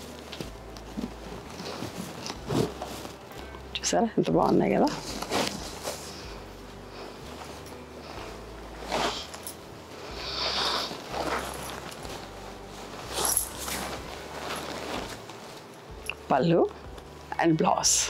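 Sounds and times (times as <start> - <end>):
fabric rustling: 0.0 - 3.5, 4.1 - 17.3.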